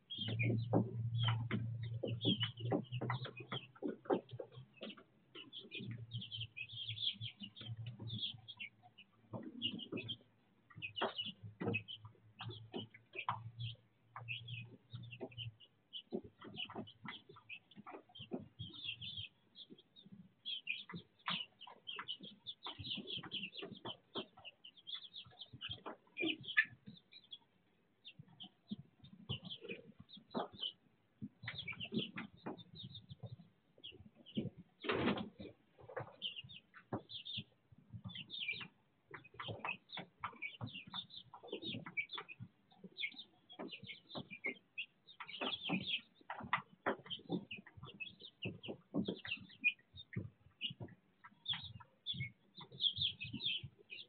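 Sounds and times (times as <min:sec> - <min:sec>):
chicks cheeping and chirping: 0:00.0 - 0:54.0
soft low clucks: 0:00.1 - 0:54.0.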